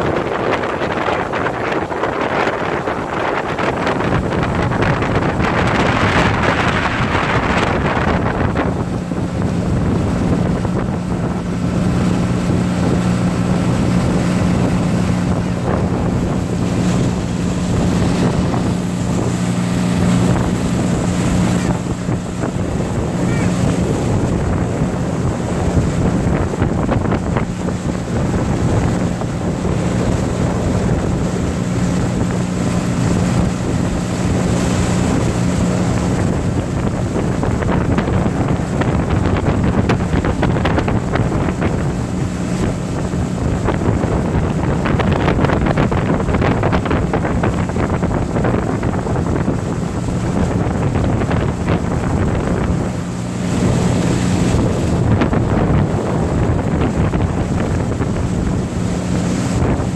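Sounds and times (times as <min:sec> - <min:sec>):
boat motor droning: 0:00.0 - 0:59.9
water rushing and splashing: 0:00.0 - 0:59.9
wind buffeting microphone: 0:00.0 - 0:59.9.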